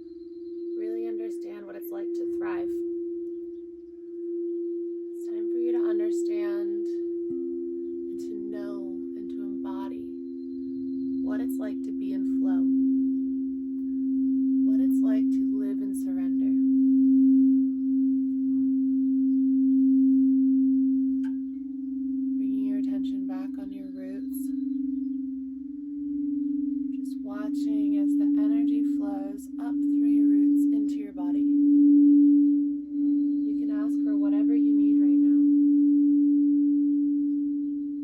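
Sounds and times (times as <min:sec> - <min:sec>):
singing bowls ringing: 0:00.0 - 0:38.0.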